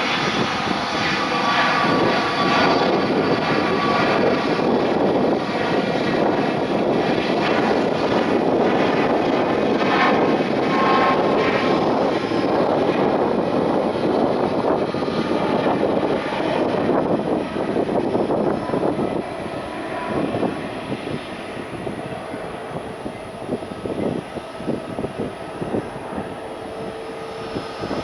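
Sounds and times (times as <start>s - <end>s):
jet engine roar: 0.0s - 28.0s.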